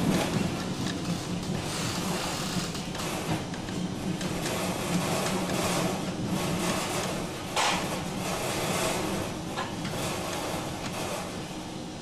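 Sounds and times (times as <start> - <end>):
streetcar wheels rumbling on rails: 0.0 - 12.0.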